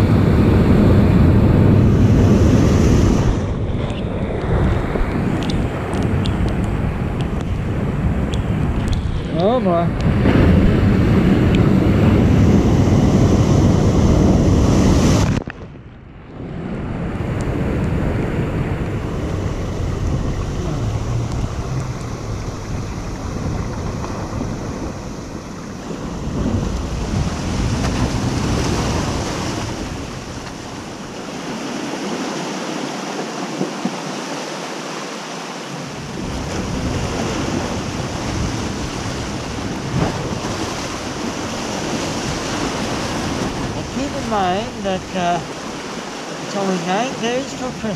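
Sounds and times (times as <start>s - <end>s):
wind buffeting microphone: 0.0s - 34.4s, 35.9s - 47.9s
ocean waves breaking: 0.0s - 47.9s.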